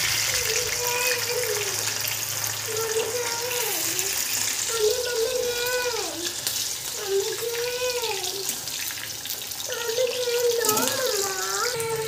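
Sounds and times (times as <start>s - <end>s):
corn sizzling in hot oil: 0.0s - 12.0s.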